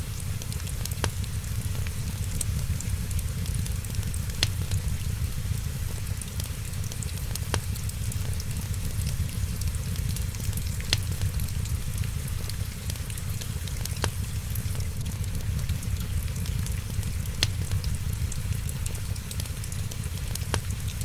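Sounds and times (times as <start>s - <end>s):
wood fire crackling: 0.0s - 21.0s
fire low rumble: 0.1s - 21.0s
sharp pops of fire: 0.8s - 12.8s, 13.7s - 19.5s, 20.1s - 20.9s.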